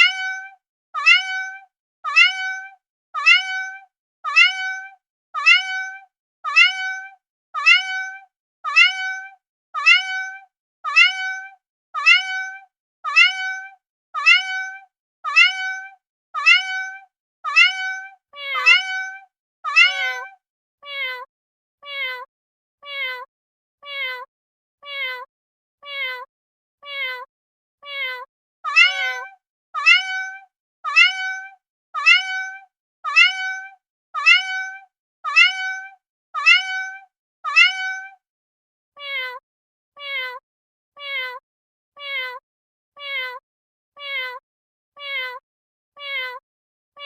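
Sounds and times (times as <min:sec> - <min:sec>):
cat meowing: 0:00.0 - 0:38.2, 0:39.0 - 0:39.4, 0:40.0 - 0:40.4, 0:41.0 - 0:41.4, 0:42.0 - 0:42.4, 0:43.0 - 0:43.4, 0:44.0 - 0:44.4, 0:45.0 - 0:45.4, 0:46.0 - 0:46.4
lower cat meow: 0:00.0 - 0:38.2, 0:39.0 - 0:39.4, 0:40.0 - 0:40.4, 0:41.0 - 0:41.4, 0:42.0 - 0:42.4, 0:43.0 - 0:43.4, 0:44.0 - 0:44.4, 0:45.0 - 0:45.4, 0:46.0 - 0:46.4.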